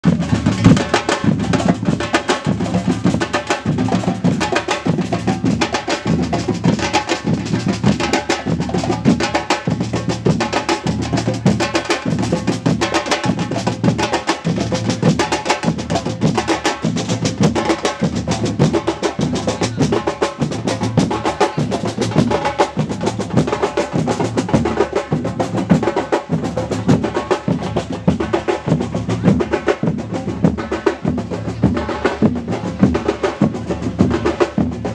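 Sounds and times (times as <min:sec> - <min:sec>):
drums and percussion rhythm: 0:00.0 - 0:34.9.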